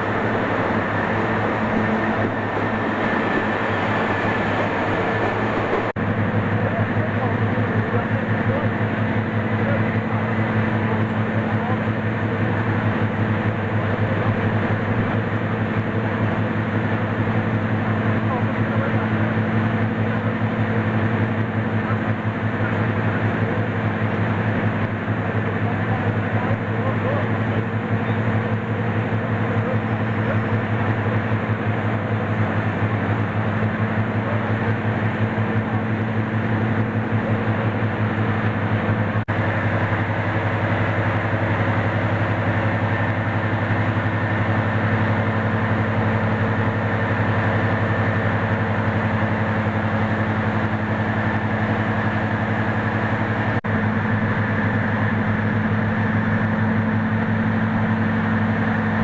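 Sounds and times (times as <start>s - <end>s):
diesel locomotive engines idling: 0.0s - 59.0s.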